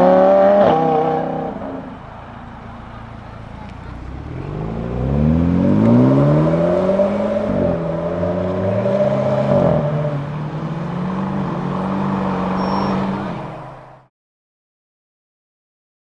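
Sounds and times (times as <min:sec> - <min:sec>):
sports car engine accelerating: 0:00.0 - 0:14.1.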